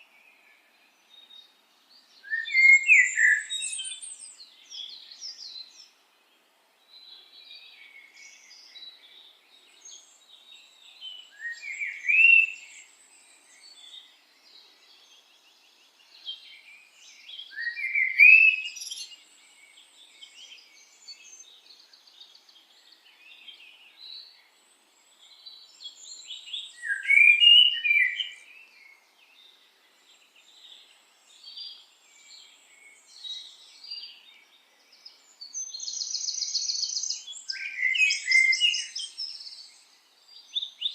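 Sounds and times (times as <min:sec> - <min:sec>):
birds chirping and singing: 0:00.2 - 0:06.0, 0:06.9 - 0:40.9.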